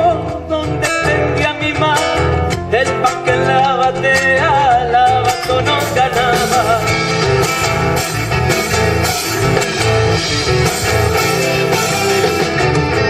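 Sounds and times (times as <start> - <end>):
live folk music with guitars: 0.0 - 13.0.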